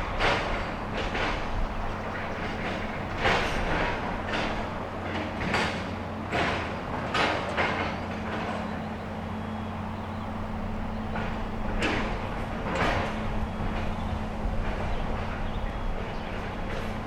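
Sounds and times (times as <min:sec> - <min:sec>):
heavy machinery engine hum: 0:00.0 - 0:17.0.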